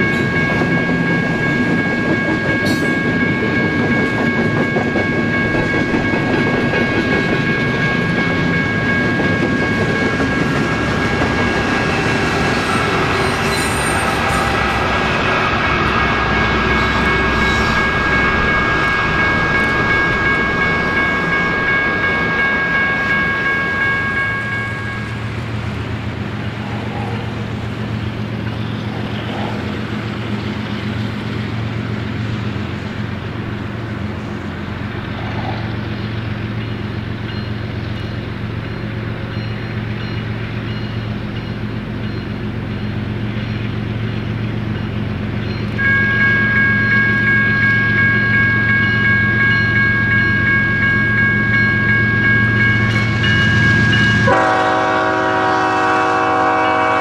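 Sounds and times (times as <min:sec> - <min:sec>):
train wheel squeal: 0:00.0 - 0:25.2, 0:35.0 - 0:55.7
diesel locomotives droning: 0:00.0 - 0:57.0.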